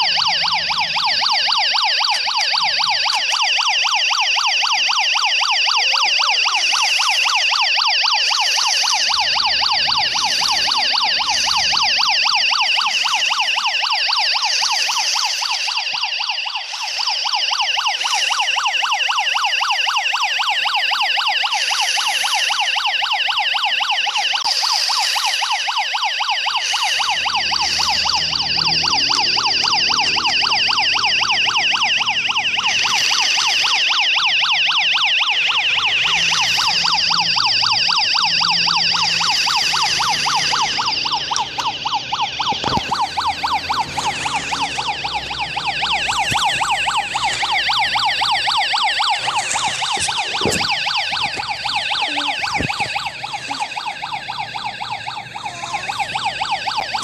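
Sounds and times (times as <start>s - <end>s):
toy police siren warbling: 0.0s - 57.0s.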